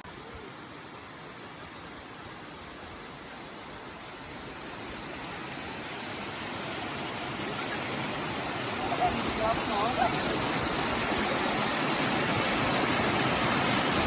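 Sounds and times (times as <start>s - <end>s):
water rushing over rock: 0.1s - 14.0s.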